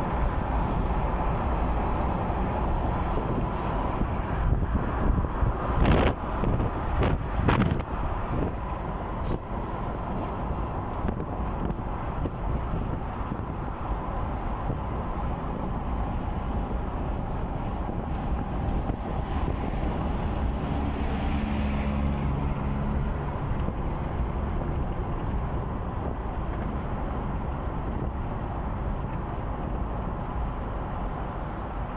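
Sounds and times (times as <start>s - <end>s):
road and engine noise: 0.0s - 31.9s
wind buffeting microphone: 0.0s - 31.9s.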